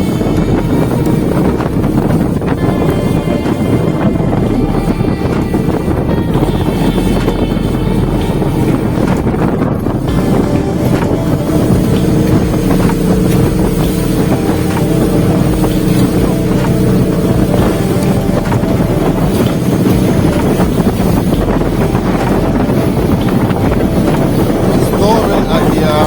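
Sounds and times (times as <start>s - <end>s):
motorboat engine running: 0.0s - 26.0s
rushing water: 0.0s - 26.0s
wind buffeting microphone: 0.0s - 26.0s.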